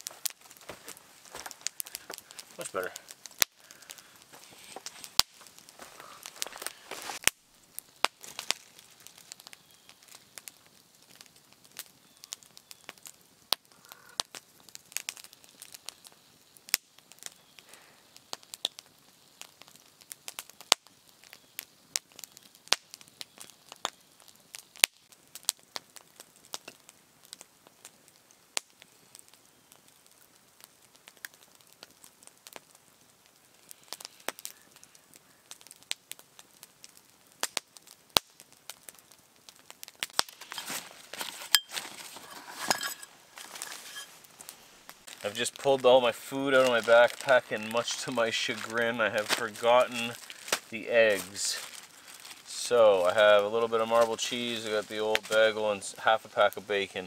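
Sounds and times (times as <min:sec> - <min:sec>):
campfire crackling: 0:00.0 - 0:57.0
sharp pops of burning wood: 0:00.0 - 0:57.0.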